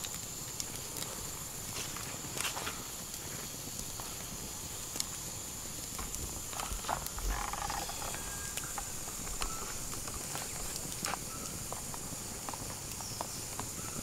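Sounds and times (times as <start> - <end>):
high outdoor hiss: 0.0 - 14.0.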